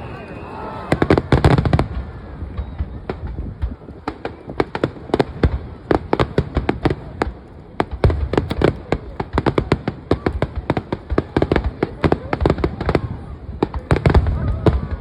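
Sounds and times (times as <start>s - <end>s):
fireworks bangs and crackles: 0.0s - 15.0s
low fireworks booming: 0.0s - 15.0s.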